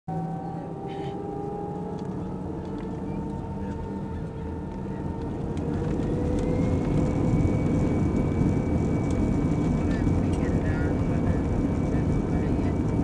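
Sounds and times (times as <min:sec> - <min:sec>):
jet engines spooling up: 0:00.7 - 0:13.0.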